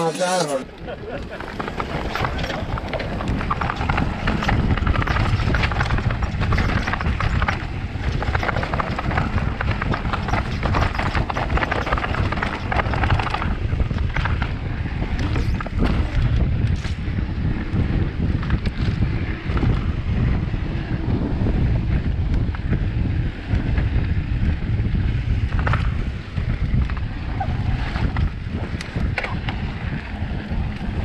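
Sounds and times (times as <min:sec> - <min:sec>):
low rumble: 0:00.6 - 0:31.0
bike rattling clicks: 0:00.7 - 0:31.0.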